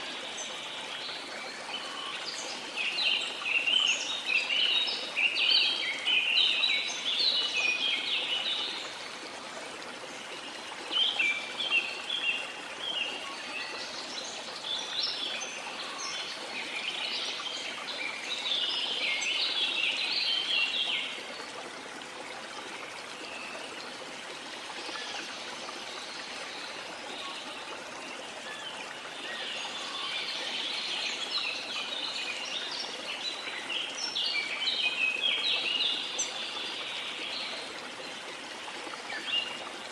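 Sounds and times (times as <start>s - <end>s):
small songbirds chirping: 0.0s - 21.9s, 22.8s - 39.9s.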